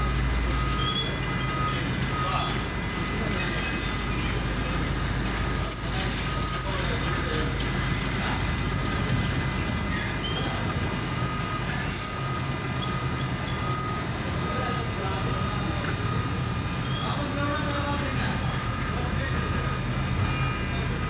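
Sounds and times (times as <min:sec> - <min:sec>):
large engine rumbling: 0:00.0 - 0:21.0.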